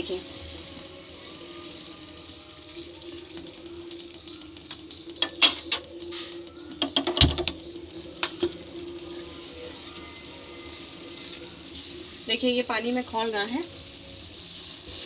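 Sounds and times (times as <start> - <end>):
pot of water boiling: 0.0 - 15.0.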